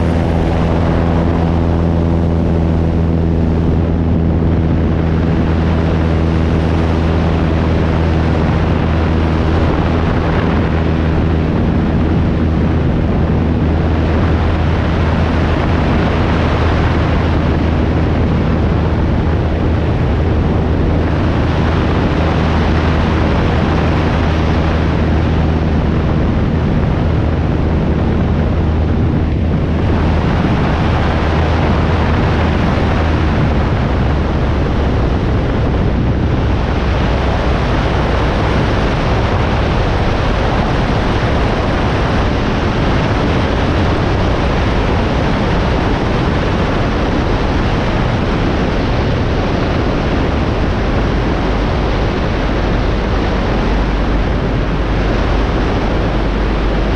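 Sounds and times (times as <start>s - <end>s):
airplane engine droning: 0.0s - 56.9s
wind rush on microphone: 0.0s - 56.9s.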